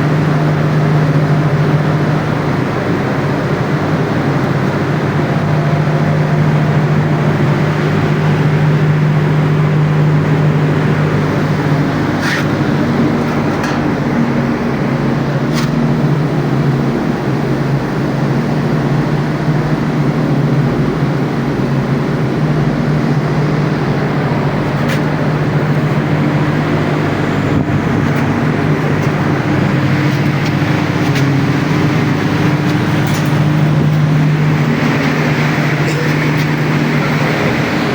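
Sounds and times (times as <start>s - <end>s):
compressor humming and whirring: 0.0s - 37.9s.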